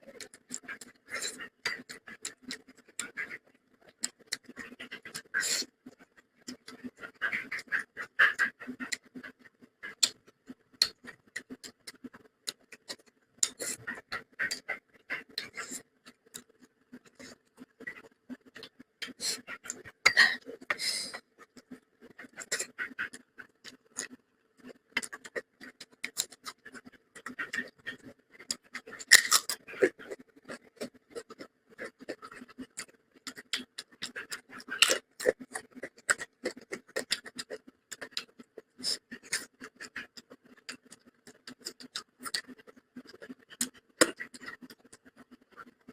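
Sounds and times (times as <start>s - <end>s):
person chewing and lip smacking: 0.1s - 45.9s.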